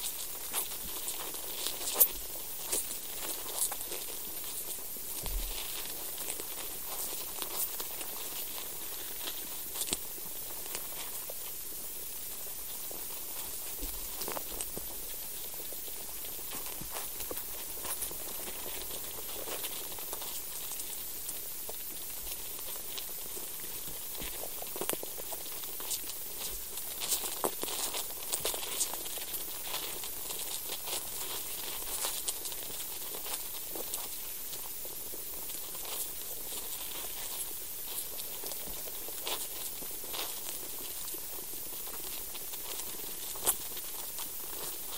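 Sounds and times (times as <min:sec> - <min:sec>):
faint clicks and crackles in soil: 0:00.0 - 0:44.9
steady hiss: 0:00.0 - 0:44.9.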